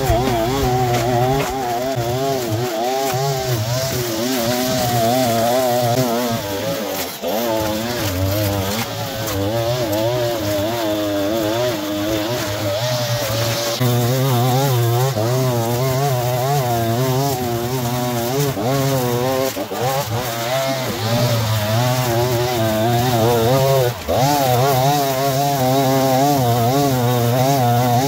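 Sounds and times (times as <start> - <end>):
line trimmer cutting grass: 0.0 - 28.0.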